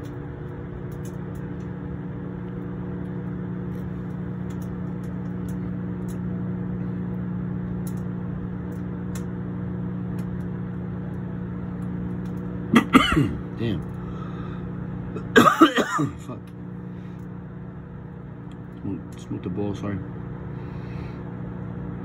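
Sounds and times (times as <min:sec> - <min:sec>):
microwave oven humming: 0:00.0 - 0:22.0.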